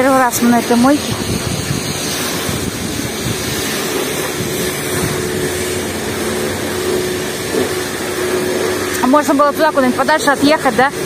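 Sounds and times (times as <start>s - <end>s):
car wash spray rushing: 0.0s - 11.0s
strong wind: 0.0s - 11.0s
thin machine hum: 0.0s - 11.0s.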